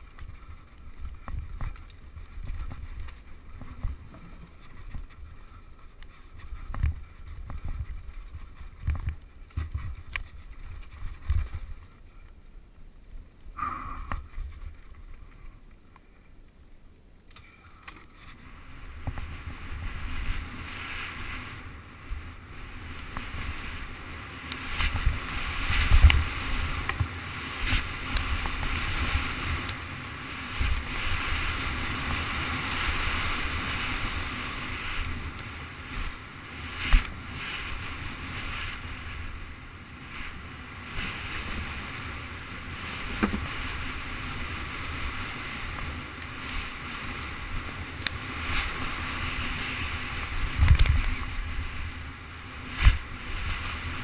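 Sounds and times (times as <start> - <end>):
wind rushing over microphone: 0.0 - 12.0, 18.2 - 54.0
bike knocking and rattling: 0.0 - 12.1, 17.4 - 54.0.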